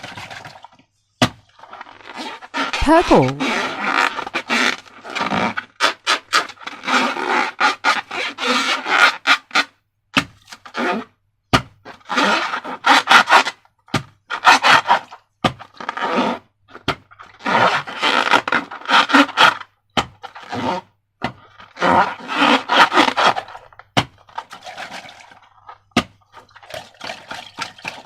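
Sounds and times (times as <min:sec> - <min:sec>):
rubbing and scraping slime and balloons: 0:00.0 - 0:28.0.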